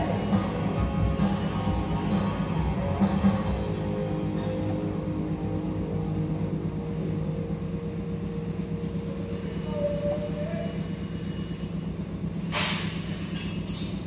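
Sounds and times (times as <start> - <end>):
machinery humming and rumbling: 0.0 - 14.0.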